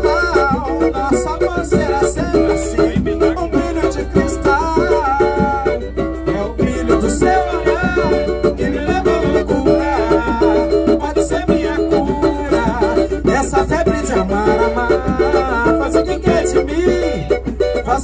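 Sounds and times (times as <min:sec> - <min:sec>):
cavaquinho strumming: 0:00.0 - 0:18.0
hand drum: 0:00.0 - 0:18.0.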